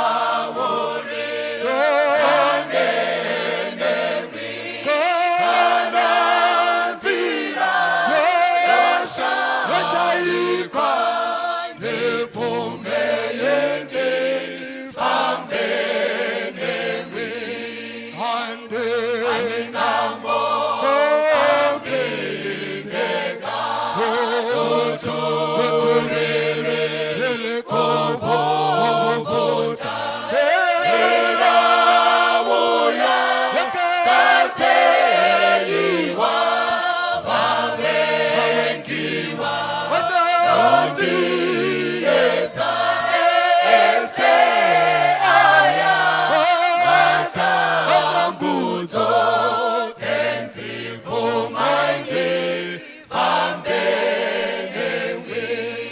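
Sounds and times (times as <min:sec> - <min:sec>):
group singing a hymn: 0:00.0 - 0:55.9.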